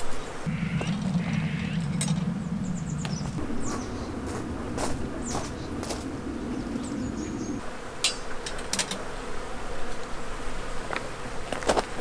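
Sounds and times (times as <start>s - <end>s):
flying insect buzzing: 0.0s - 12.0s.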